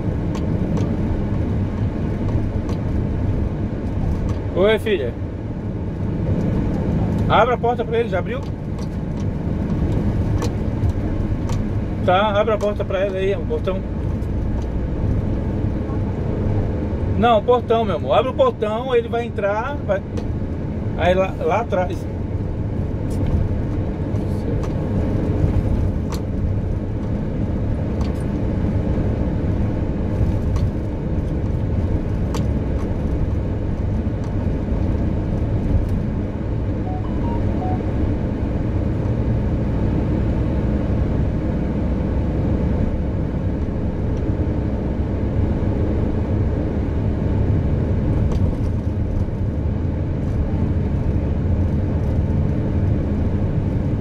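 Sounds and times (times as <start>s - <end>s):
car engine: 0.0s - 54.0s
tyres on dirt road: 0.0s - 54.0s.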